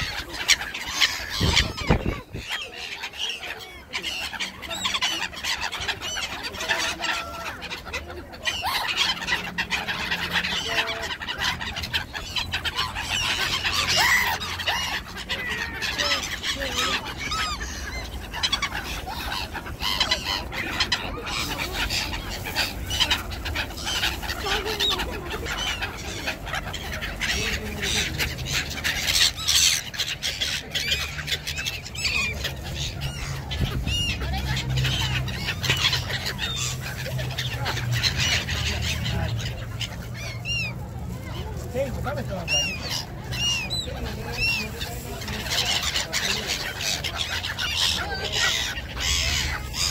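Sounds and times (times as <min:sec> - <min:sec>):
flock of gulls calling: 0:00.0 - 0:49.9.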